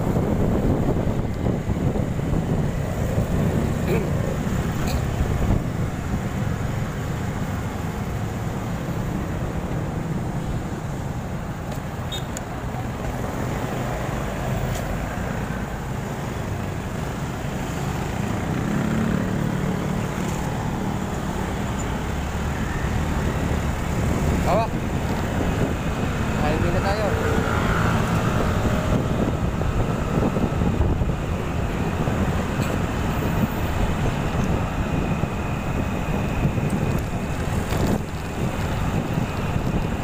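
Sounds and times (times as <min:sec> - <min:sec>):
motorcycle engine and road noise: 0:00.0 - 0:40.0
surrounding traffic: 0:00.0 - 0:40.0.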